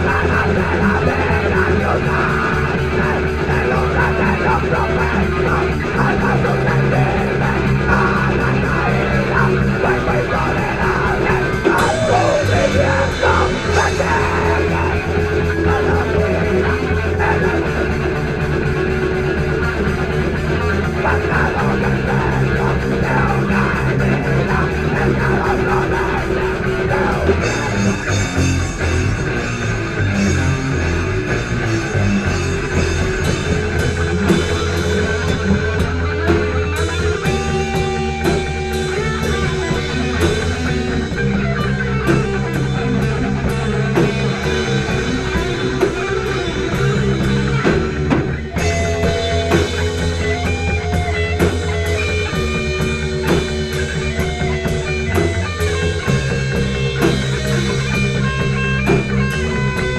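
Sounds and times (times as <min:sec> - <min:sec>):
bass guitar: 0:00.0 - 0:59.9
drum kit: 0:00.0 - 0:59.9
melodic rock guitars: 0:00.0 - 0:59.9.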